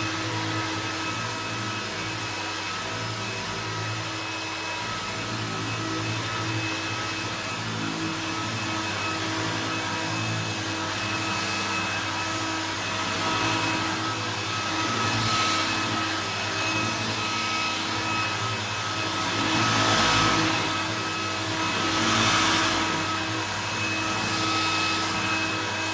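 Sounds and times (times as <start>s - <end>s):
vacuum cleaner motor whine: 0.0s - 25.9s.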